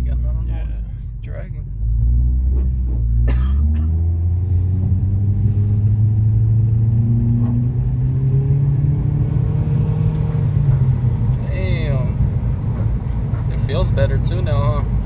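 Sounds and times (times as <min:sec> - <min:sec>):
car exhaust accelerating: 0:00.0 - 0:15.0.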